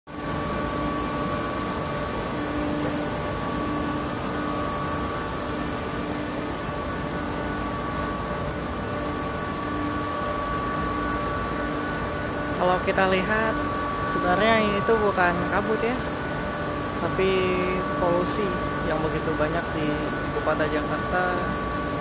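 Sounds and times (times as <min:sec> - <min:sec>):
mechanical hum: 0:00.0 - 0:22.0
low pulsing tone: 0:00.1 - 0:22.0.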